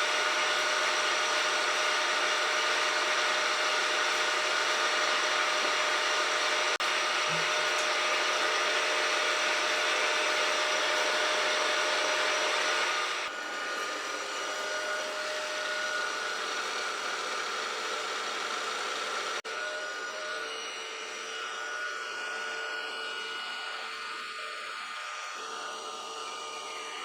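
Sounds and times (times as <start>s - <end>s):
cutter hissing on metal: 0.0s - 27.0s
milling spindle whine: 0.0s - 27.0s.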